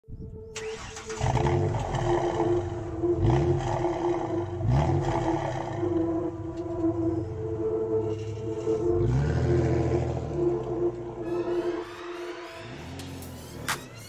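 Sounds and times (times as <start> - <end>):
car engine revving: 0.6 - 14.0.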